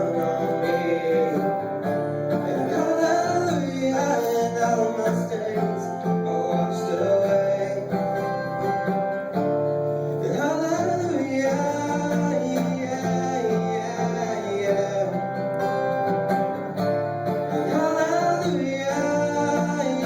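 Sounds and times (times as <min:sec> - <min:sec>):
man singing: 0:00.0 - 0:09.1, 0:09.9 - 0:16.1, 0:17.4 - 0:20.0
acoustic guitar strumming: 0:00.0 - 0:20.0.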